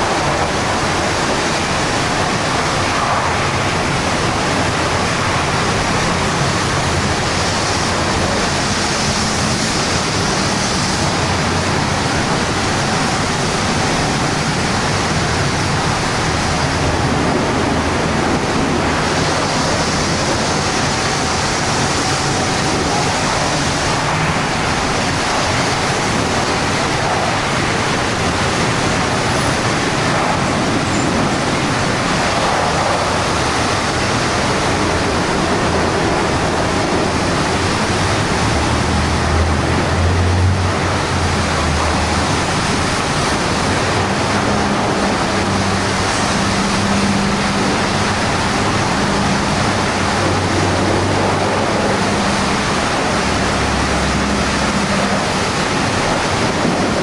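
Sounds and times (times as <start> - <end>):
car wash rushing noise: 0.0 - 57.0.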